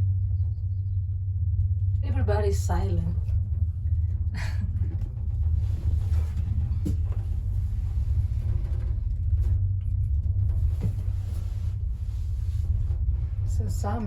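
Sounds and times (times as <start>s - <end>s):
gondola cabin rumble: 0.0s - 14.0s.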